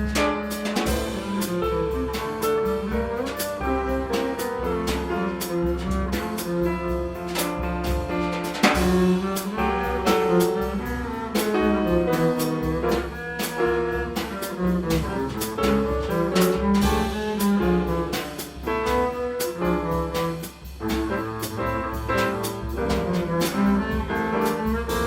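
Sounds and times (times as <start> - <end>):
upright double bass: 0.0 - 25.0.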